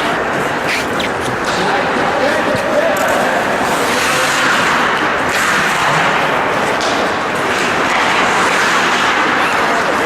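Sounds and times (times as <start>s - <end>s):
hockey sticks or puck knocking: 0.0s - 10.0s
skates scraping on ice: 0.0s - 10.0s.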